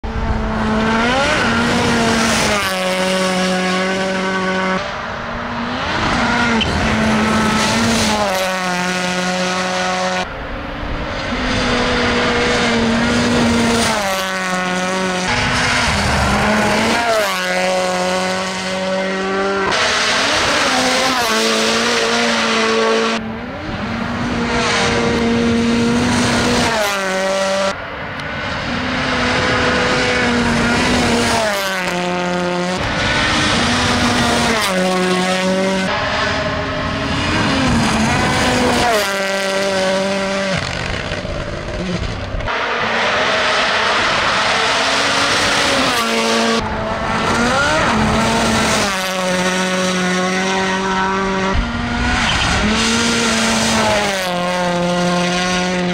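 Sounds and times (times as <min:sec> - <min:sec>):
rally car engine at full throttle: 0:00.0 - 0:55.9.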